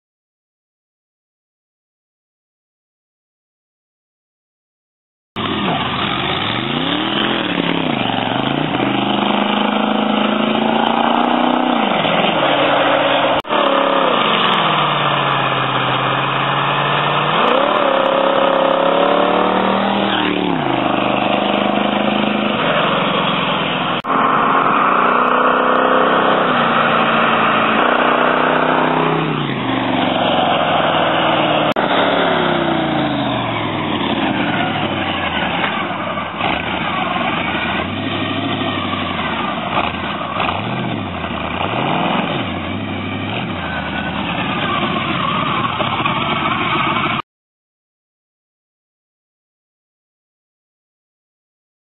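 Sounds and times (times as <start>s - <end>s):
car engine revving: 5.4s - 47.2s.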